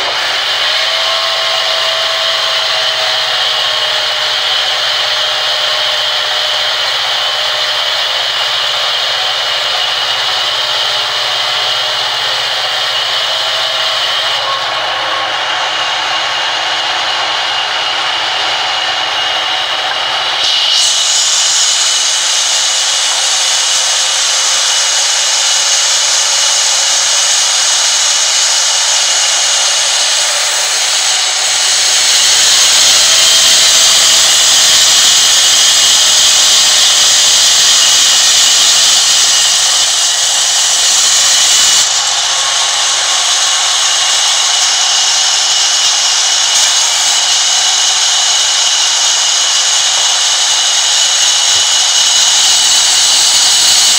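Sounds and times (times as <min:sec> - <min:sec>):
band saw cutting timber: 0:00.0 - 0:53.9.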